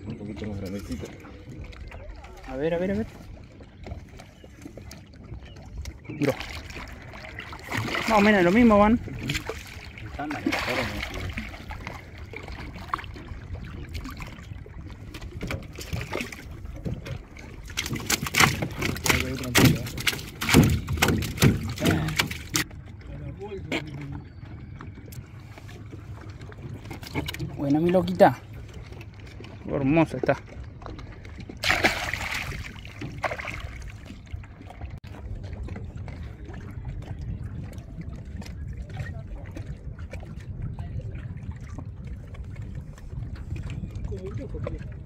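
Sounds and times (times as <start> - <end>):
water lapping around a boat: 0.0 - 45.0.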